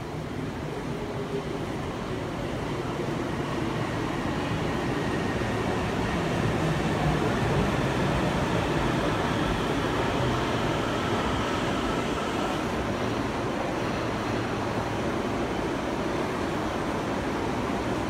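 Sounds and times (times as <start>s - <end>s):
electric train slowing to a stop: 0.0s - 18.0s
faint train whine: 0.0s - 18.0s
standing train hum: 0.0s - 18.0s.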